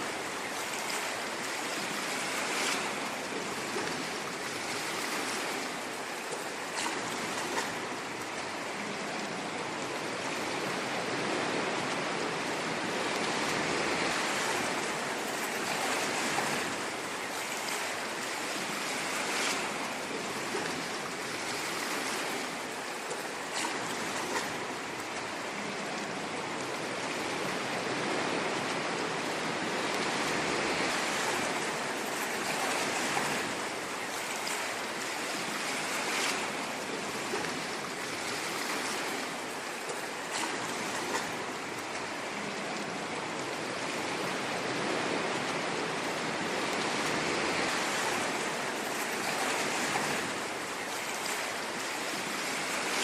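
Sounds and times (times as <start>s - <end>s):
ocean waves washing on shore: 0.0s - 53.0s.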